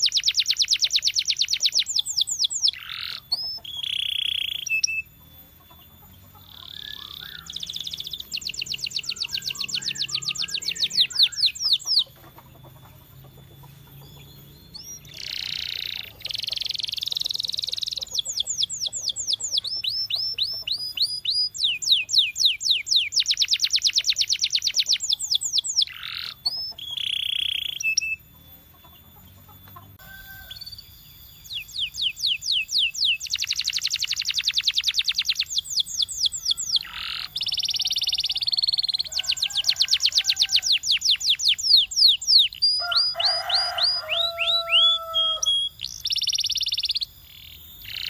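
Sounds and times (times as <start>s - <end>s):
canary singing: 0.0s - 48.0s.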